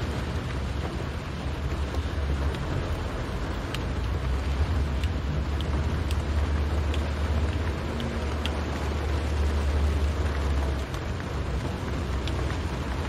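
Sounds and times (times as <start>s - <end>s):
engine and road rumble: 0.0s - 13.0s
rain hiss: 0.0s - 13.0s
raindrops ticking on windscreen: 0.0s - 13.0s.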